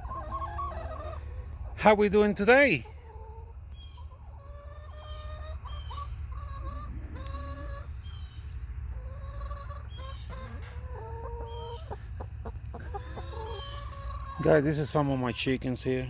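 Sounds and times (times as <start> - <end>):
hens calling: 0.0 - 16.0.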